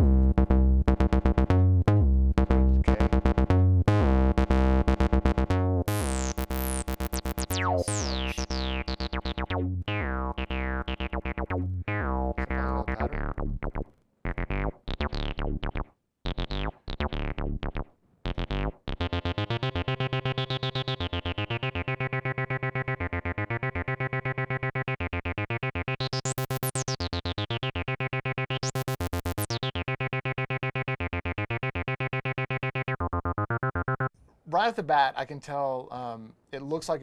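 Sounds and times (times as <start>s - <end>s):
synthesizer bassline: 0.0s - 34.1s.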